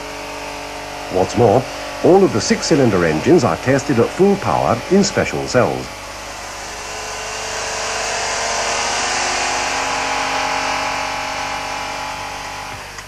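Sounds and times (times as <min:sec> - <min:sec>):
engine running at high revs: 0:00.0 - 0:13.0.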